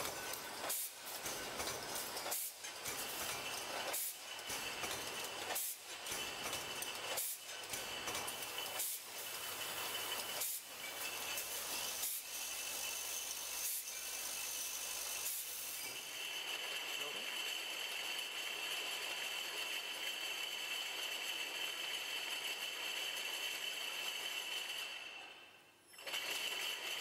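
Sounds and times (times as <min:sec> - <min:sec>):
bottling machine hiss and clatter: 0:00.0 - 0:27.0.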